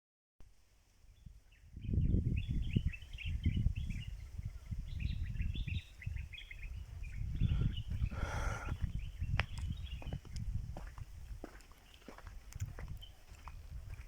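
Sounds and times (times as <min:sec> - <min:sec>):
small birds chirping: 0:01.0 - 0:14.0.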